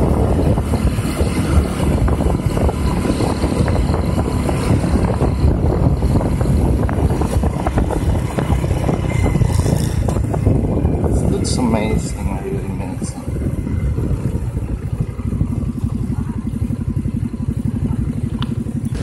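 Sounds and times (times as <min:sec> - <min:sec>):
vehicle running noise: 0:00.0 - 0:19.0
wind buffeting microphone: 0:00.0 - 0:19.0.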